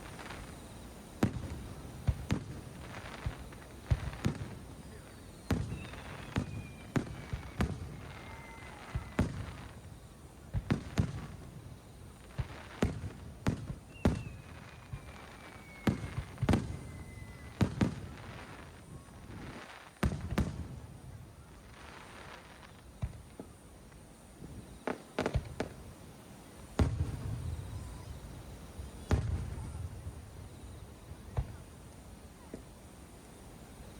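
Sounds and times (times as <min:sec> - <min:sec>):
fireworks bursting: 0:00.0 - 0:33.9
fireworks whistling: 0:00.0 - 0:33.9.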